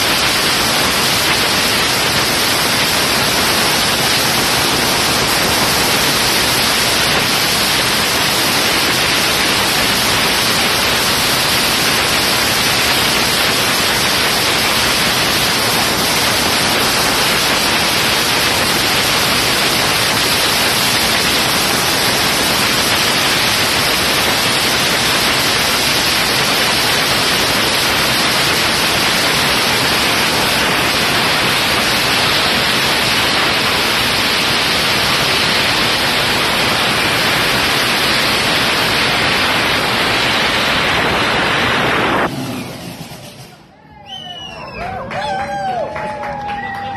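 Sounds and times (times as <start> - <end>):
dragster engine running: 0.0 - 43.7.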